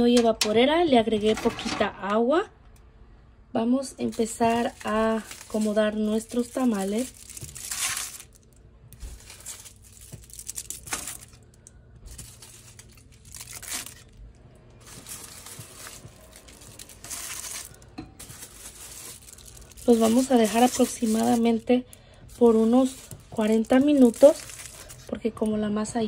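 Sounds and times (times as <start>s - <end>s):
foil crinkling: 4.1s - 25.3s.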